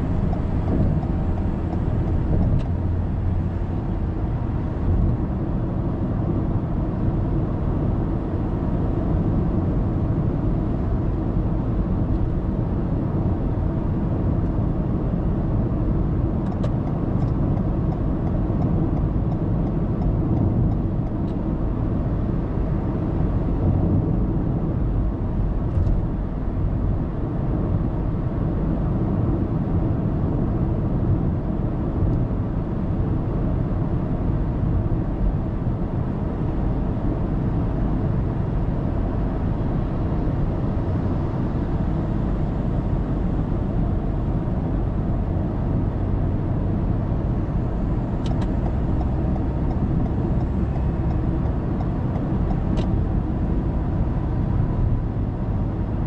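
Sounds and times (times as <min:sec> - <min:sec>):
car cabin road drone: 0:00.0 - 0:56.0.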